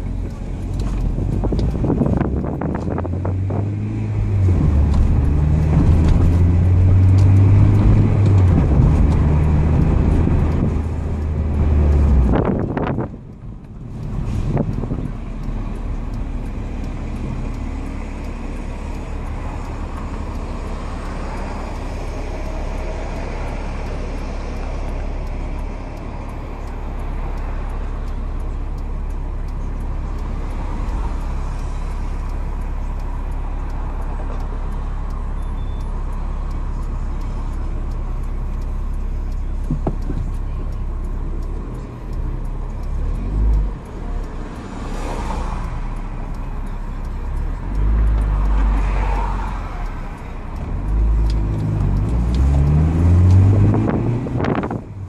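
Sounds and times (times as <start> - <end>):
car engine idling: 0.0 - 55.0
cars passing outside: 0.0 - 55.0.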